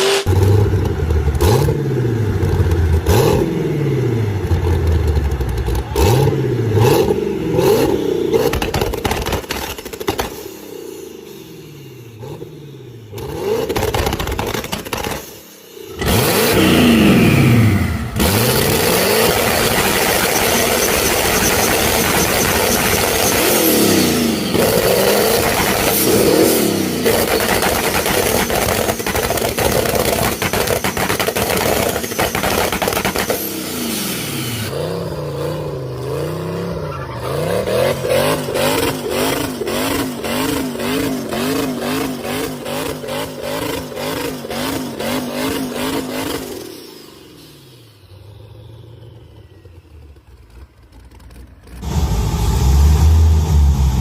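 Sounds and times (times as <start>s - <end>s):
car engines revving hard: 0.0s - 48.8s, 51.6s - 54.0s
engine crackle: 0.0s - 54.0s.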